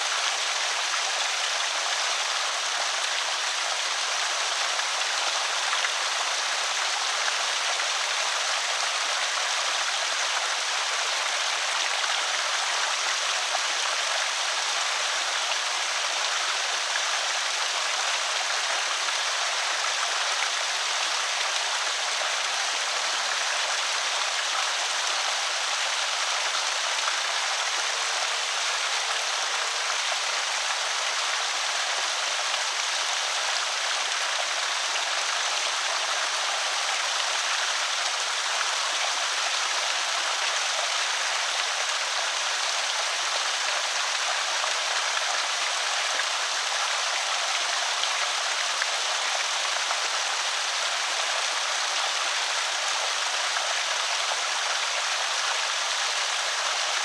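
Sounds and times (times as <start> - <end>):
water rushing over a spillway: 0.0 - 57.0.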